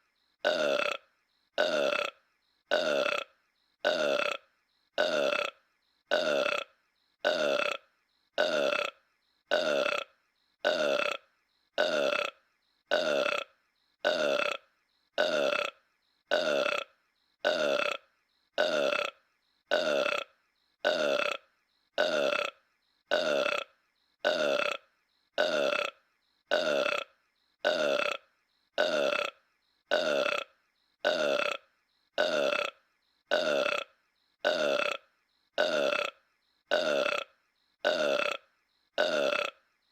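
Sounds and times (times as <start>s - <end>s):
cartoon burp: 0.4s - 39.7s.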